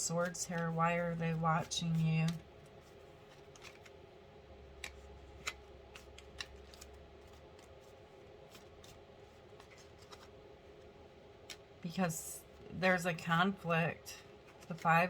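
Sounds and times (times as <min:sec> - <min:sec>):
cards being handled: 0:00.2 - 0:11.8, 0:14.3 - 0:15.0.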